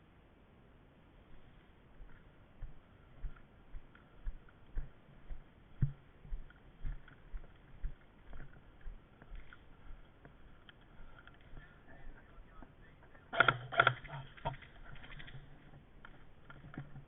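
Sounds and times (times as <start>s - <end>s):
footsteps walking: 1.2s - 17.0s
gear clicking and rattling: 2.0s - 17.0s.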